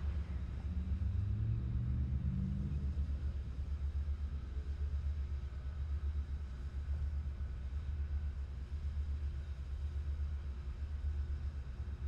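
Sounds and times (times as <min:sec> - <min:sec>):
steam locomotive low rumble: 0:00.0 - 0:12.0.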